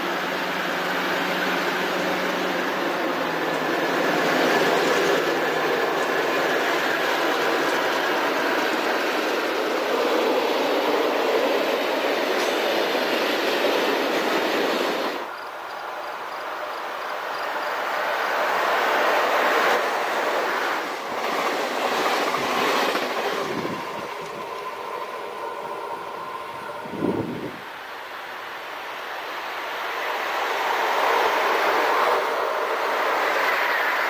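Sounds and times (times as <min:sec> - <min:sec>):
freight train wheels rolling: 0:00.0 - 0:34.0.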